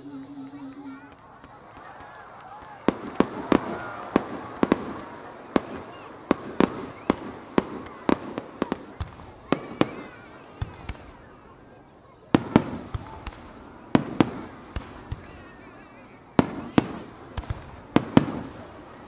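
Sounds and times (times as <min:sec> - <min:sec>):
fireworks bursting: 0:00.0 - 0:19.0
onlookers' voices: 0:00.0 - 0:19.0.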